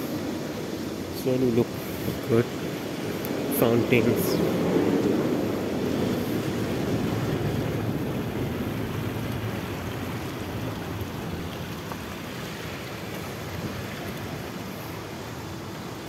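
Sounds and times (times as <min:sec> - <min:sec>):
fountain water splashing into pools: 0:00.0 - 0:16.0.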